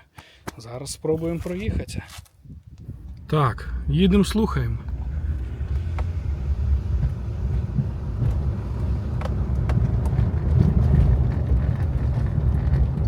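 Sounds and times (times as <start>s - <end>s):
road and tyre rumble: 1.2s - 13.0s.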